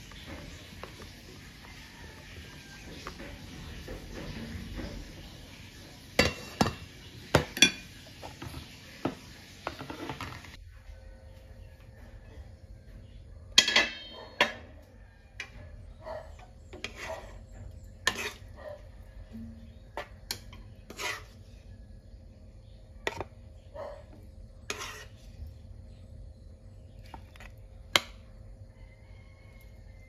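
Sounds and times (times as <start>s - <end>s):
spoon scraping and stirring stew: 0.0s - 10.6s, 14.0s - 29.8s.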